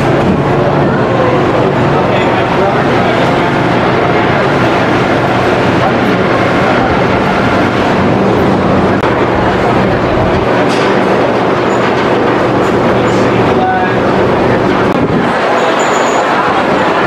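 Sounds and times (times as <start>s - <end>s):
roller coaster lift chain rattle: 0.0s - 17.0s.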